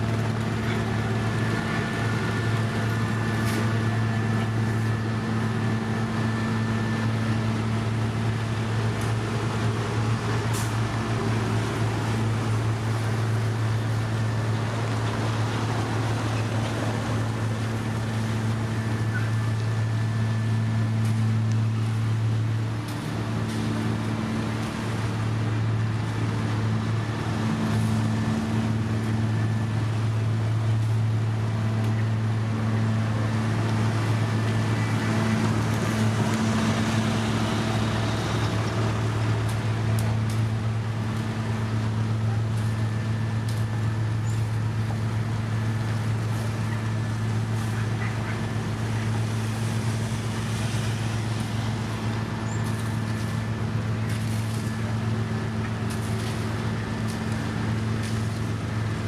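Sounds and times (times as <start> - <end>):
diesel engine low drone: 0.0 - 59.0.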